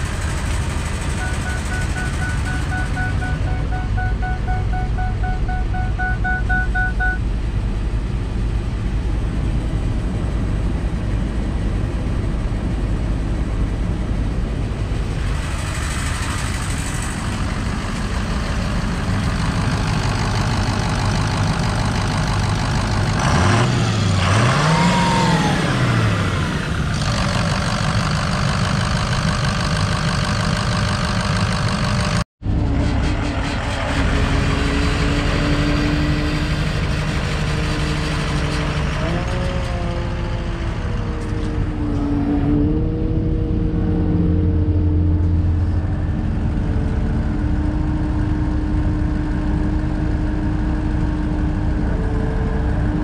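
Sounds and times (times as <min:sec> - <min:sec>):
truck engine idling and revving: 0:00.0 - 0:53.0.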